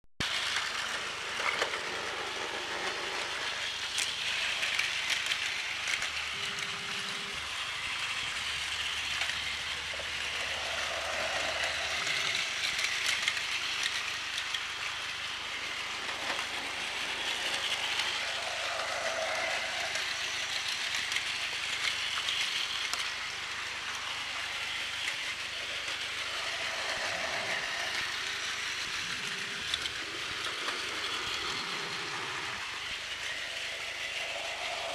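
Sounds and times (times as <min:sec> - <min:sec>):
toy train motors whirring: 0:00.2 - 0:34.9.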